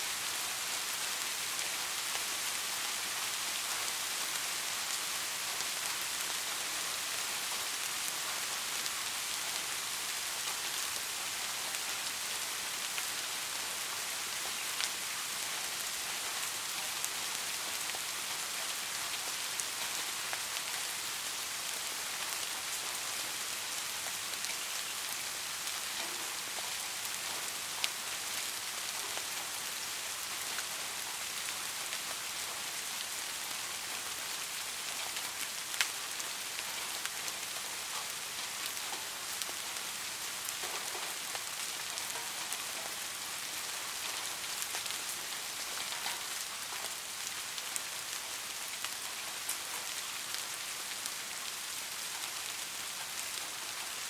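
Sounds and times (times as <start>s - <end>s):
gentle rain hiss: 0.0s - 54.0s.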